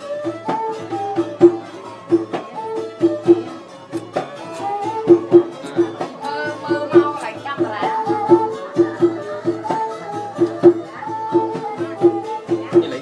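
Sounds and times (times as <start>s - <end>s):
percussive strikes: 0.0s - 13.0s
plucked-string melody: 0.0s - 13.0s.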